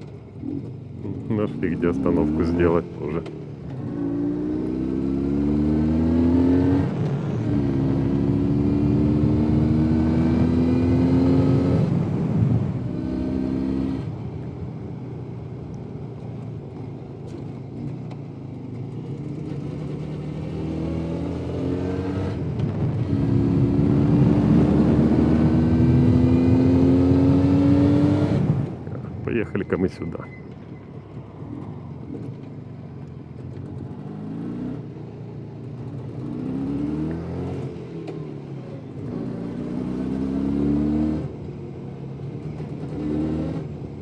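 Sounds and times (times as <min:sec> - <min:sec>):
motorcycle engine revving through gears: 0:00.0 - 0:29.1, 0:30.5 - 0:44.0.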